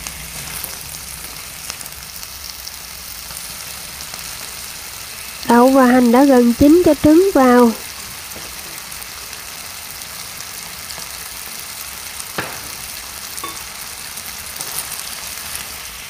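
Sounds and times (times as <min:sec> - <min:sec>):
vegetables sizzling in a wok: 0:00.0 - 0:16.0.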